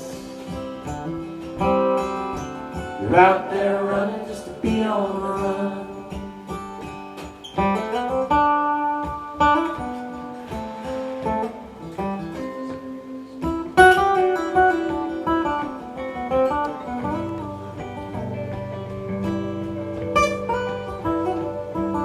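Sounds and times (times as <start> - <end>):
lead guitar picked notes: 0.0 - 22.0
strummed acoustic guitar: 0.0 - 22.0.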